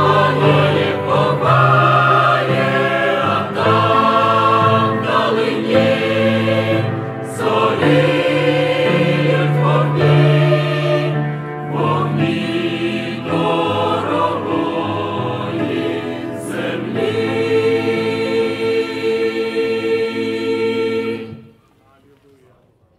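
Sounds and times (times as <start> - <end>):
choir singing a hymn: 0.0 - 21.6.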